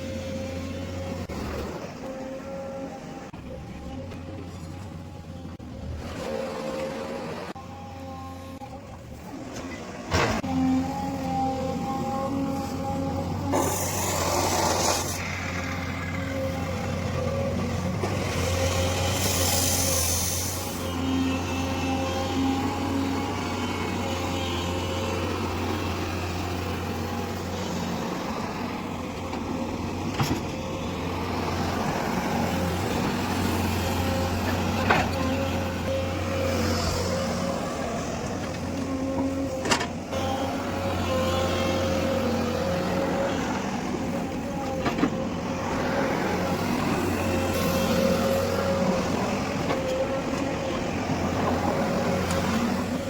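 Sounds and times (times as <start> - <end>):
excavator diesel engine whining: 0.0 - 53.0.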